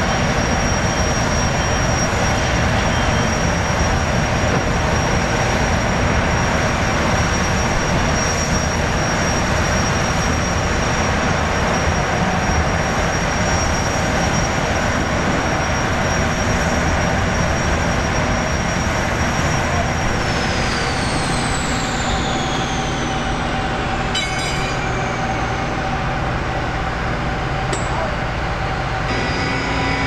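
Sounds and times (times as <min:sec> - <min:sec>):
gas turbine engines rushing: 0:00.0 - 0:30.0
high constant whine: 0:00.0 - 0:30.0.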